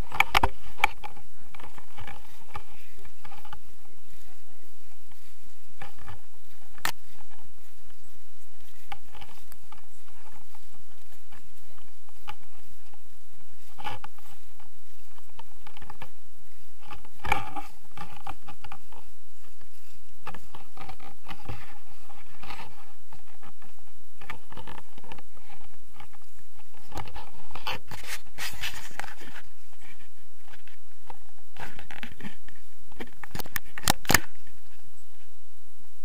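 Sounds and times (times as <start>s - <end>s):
jacket fabric rubbing on camera: 0.0s - 35.4s
crackles and clicks: 0.0s - 36.0s.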